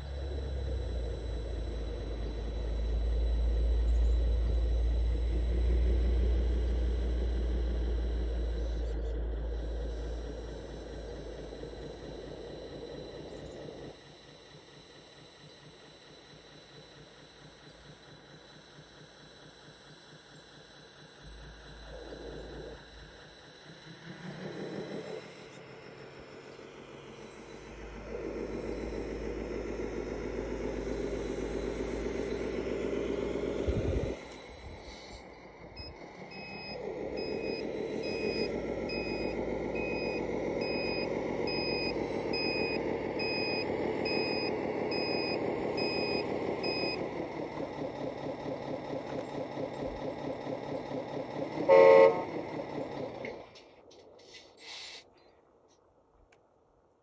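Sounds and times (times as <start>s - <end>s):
reversing beeper: 0.0s - 54.5s
toy truck motor whine: 0.0s - 56.3s.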